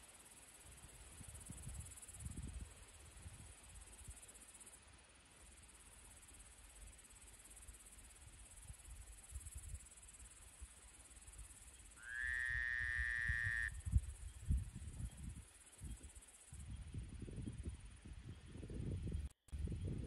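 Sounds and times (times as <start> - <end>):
insects chirring: 0.0 - 18.1.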